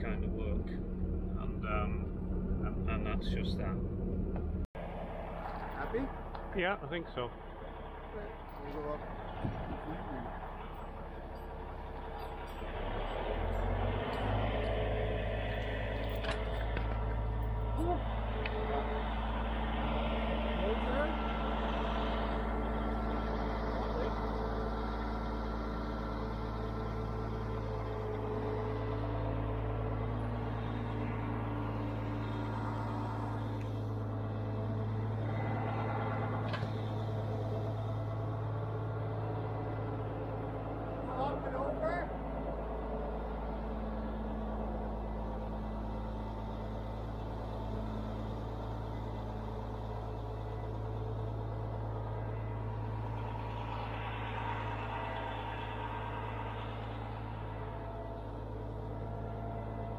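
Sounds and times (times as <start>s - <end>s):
crane diesel engine running: 0.0s - 59.9s.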